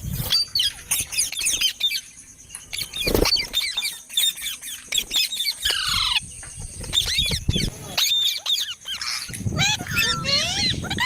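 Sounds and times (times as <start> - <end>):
parrots chirping and squawking: 0.1 - 11.0.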